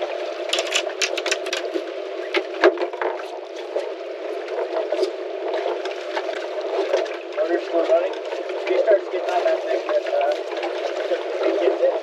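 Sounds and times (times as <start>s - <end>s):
water slapping boat hull: 0.0s - 12.0s.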